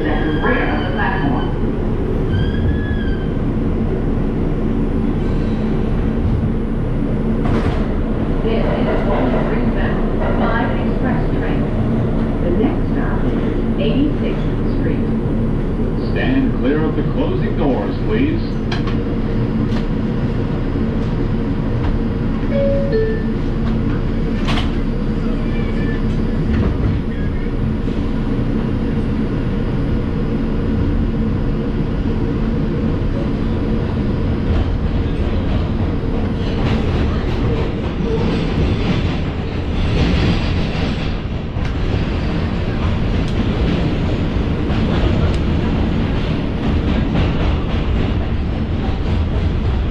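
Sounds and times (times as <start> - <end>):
train motors humming: 0.0 - 49.9
train wheels rumbling on rail: 0.0 - 49.9.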